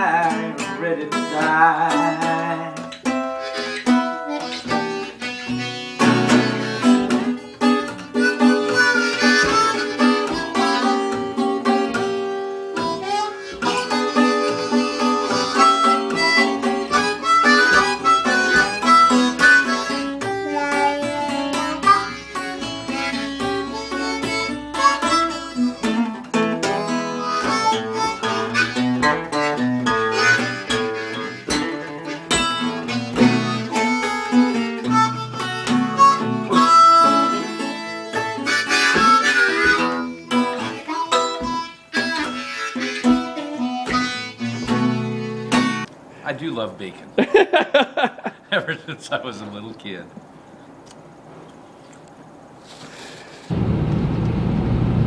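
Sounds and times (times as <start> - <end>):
blues harmonica solo: 0.0 - 46.6
guitar accompaniment: 0.0 - 51.1, 52.6 - 55.0.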